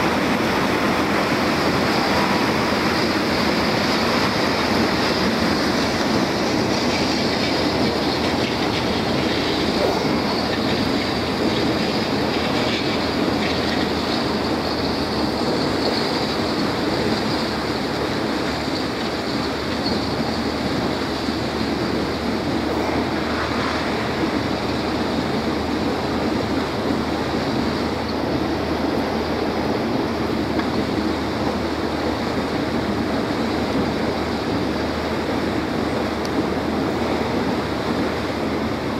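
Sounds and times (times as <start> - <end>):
motorboat engine rumble: 0.0 - 38.9
water rushing along hull: 0.0 - 38.9.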